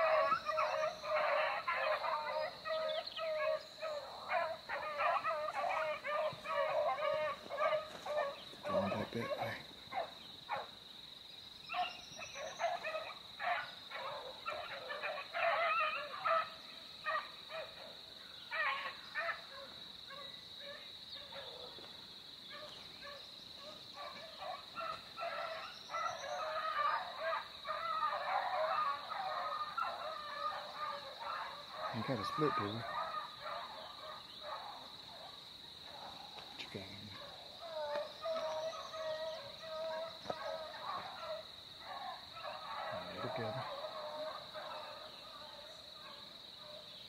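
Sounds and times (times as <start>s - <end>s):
pack of dogs barking: 0.0s - 10.8s, 11.7s - 47.0s.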